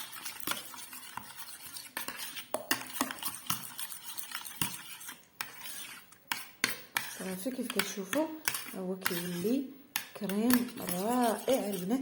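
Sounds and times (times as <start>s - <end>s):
utensil scraping a pot: 0.0s - 12.0s.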